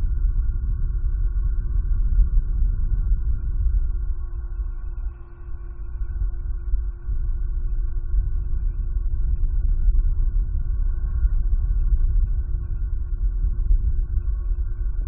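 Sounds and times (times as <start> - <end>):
low rumble: 0.0 - 15.0
steady hum: 0.0 - 15.0.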